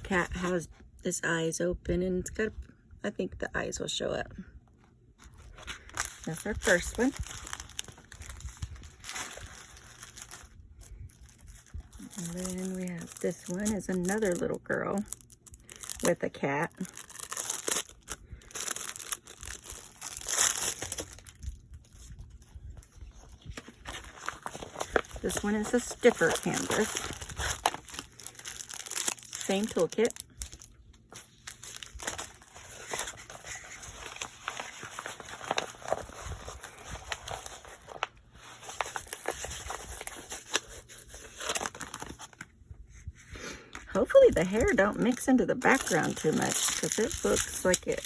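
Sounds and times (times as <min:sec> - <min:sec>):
plastic packaging crinkling: 0:05.2 - 0:42.5, 0:43.9 - 0:48.0.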